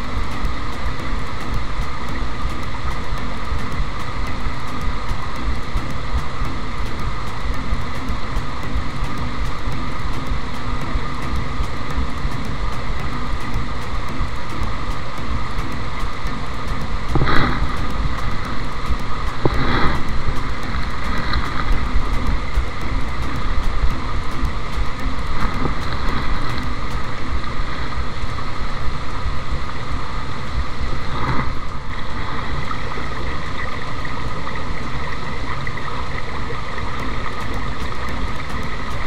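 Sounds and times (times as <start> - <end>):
stream running over stones: 0.0 - 39.0
wind rumbling on microphone: 0.0 - 39.0.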